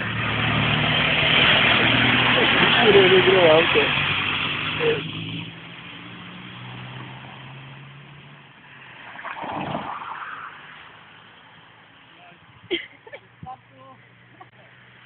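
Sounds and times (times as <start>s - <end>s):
vehicle passing: 0.0s - 12.7s.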